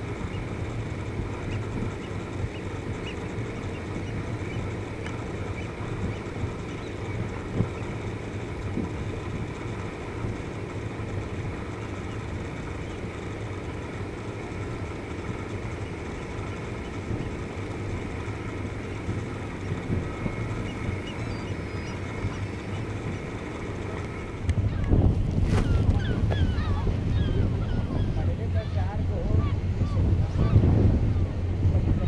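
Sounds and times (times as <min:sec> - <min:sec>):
ship engine drone: 0:00.0 - 0:32.0.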